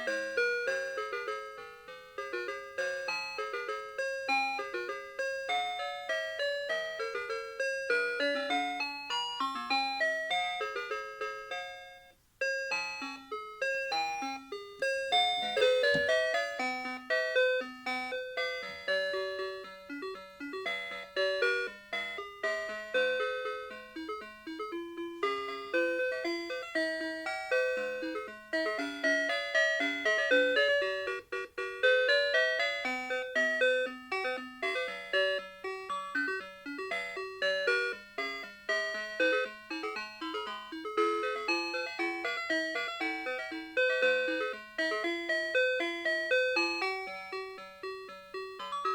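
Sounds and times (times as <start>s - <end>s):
alarm clock bell-like melody: 0.0s - 48.9s.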